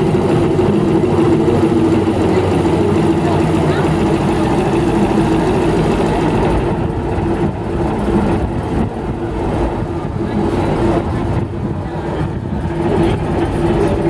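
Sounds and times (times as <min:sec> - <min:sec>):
diesel locomotive engine idling: 0:00.0 - 0:14.0.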